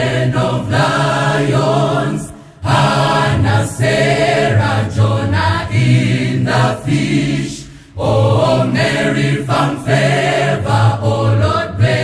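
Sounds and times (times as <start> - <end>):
choir singing gospel in harmony: 0.0 - 12.0.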